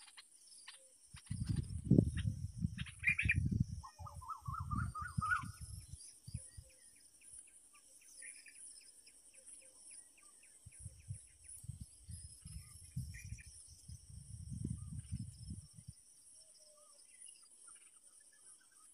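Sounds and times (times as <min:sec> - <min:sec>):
bird chirping: 0:00.0 - 0:18.9.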